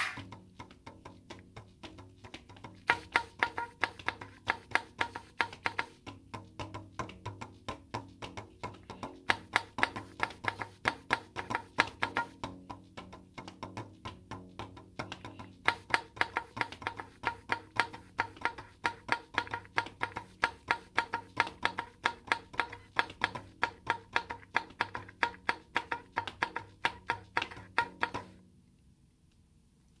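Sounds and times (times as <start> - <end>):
rapid percussive drum hits: 0.0 - 28.4.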